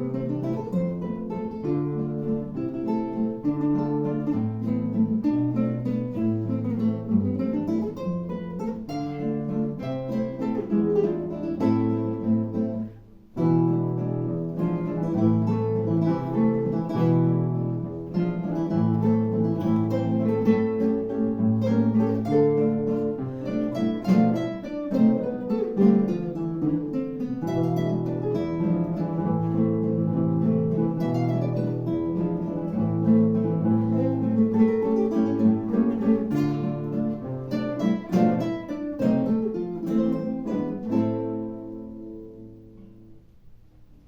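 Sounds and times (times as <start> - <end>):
solo classical guitar: 0.0 - 44.0.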